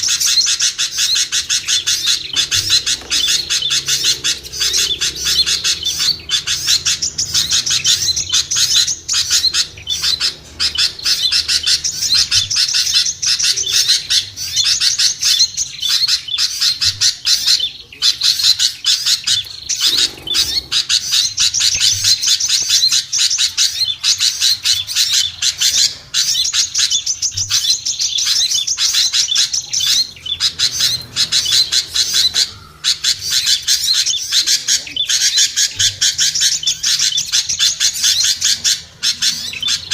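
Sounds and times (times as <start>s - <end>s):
small songbirds chattering: 0.0s - 39.9s.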